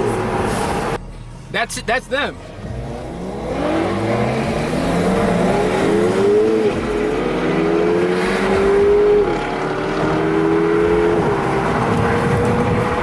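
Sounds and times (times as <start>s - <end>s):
sports car engine accelerating: 2.4s - 13.0s.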